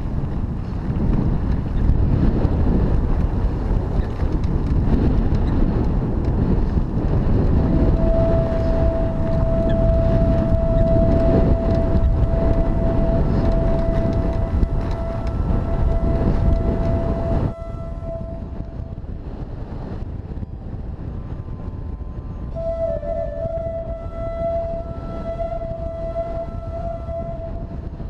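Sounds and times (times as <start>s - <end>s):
bike rolling rumble: 0.0s - 28.0s
wind buffeting microphone: 0.0s - 28.0s.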